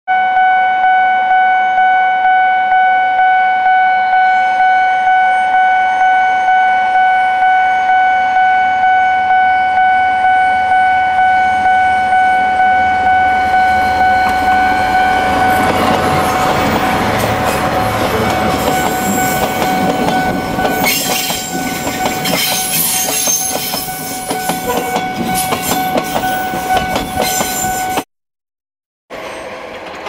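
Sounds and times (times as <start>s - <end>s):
level-crossing warning bell ringing: 0.1s - 28.0s
diesel locomotive engines and wheels: 0.3s - 28.0s, 29.1s - 30.0s.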